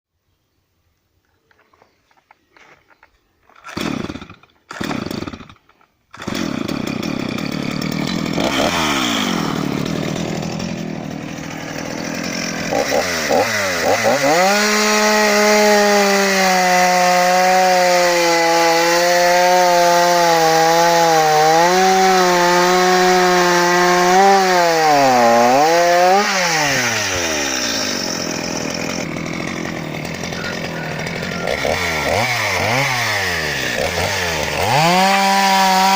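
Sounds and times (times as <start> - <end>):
chainsaw engine revving: 3.5 - 35.9.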